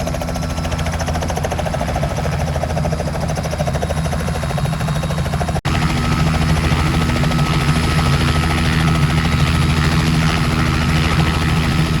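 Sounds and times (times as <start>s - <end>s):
helicopter rotor and engine drone: 0.0s - 12.0s.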